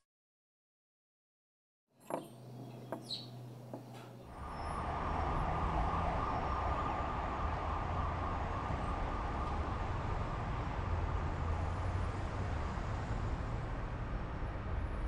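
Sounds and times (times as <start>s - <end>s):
street traffic rumble: 2.0s - 15.0s.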